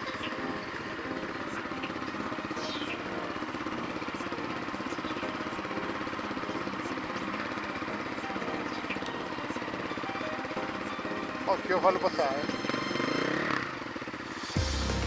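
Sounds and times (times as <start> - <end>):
dirt bike engines idling: 0.0 - 15.0.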